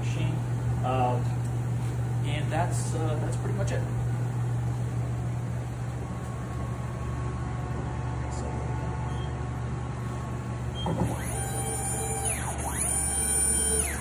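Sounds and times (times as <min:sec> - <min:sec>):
printer humming with hiss: 0:00.0 - 0:14.0.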